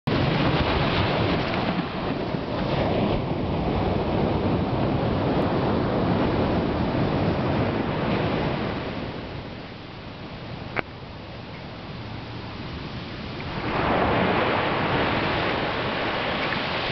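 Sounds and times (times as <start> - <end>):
ocean surf on a beach: 0.1 - 16.9
wind buffeting microphone: 0.1 - 16.9.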